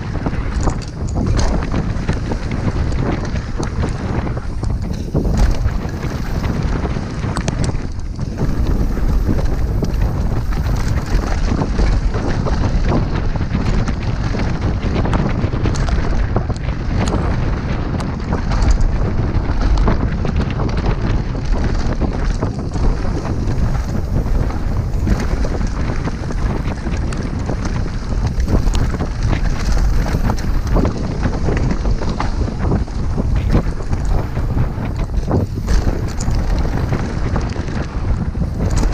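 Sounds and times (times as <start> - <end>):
tyres rolling over dirt: 0.0 - 16.9, 17.5 - 38.9
bike rattling over rough ground: 0.0 - 38.9
wind buffeting microphone: 0.0 - 38.9.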